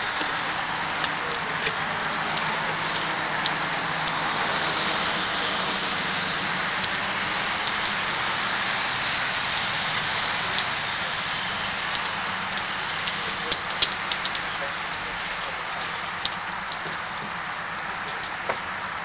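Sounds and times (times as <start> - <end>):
hiss of falling water: 0.0 - 19.0
water drips ticking: 0.0 - 19.0.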